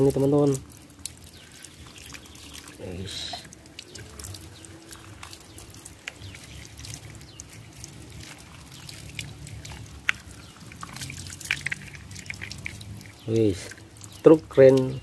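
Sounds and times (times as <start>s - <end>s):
water drips: 0.0s - 15.0s
water splashing on wet concrete: 0.0s - 15.0s.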